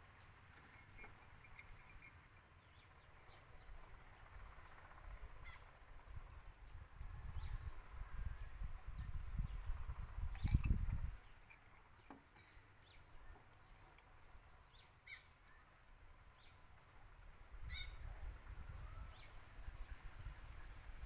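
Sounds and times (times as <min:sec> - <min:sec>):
faint high bird twittering: 0:00.0 - 0:21.0.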